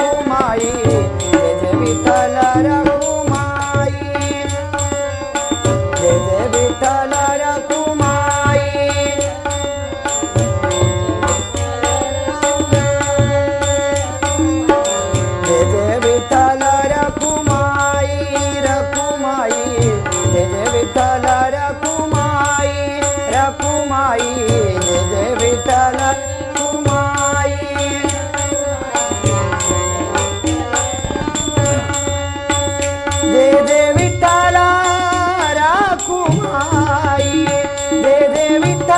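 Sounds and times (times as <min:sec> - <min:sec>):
harmonium melody: 0:00.0 - 0:38.9
tabla rhythm: 0:00.0 - 0:38.9.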